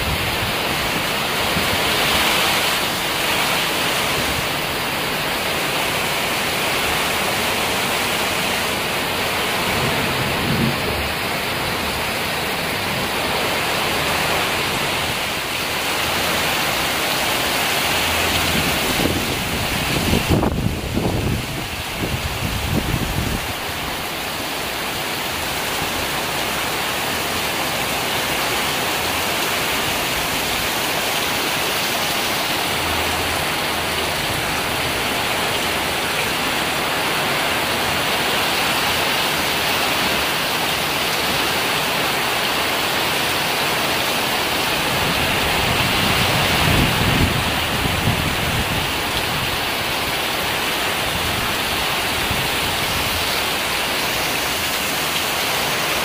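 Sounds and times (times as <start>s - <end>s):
heavy rain falling: 0.0s - 56.0s
low rumbling wind gusts: 0.0s - 56.0s.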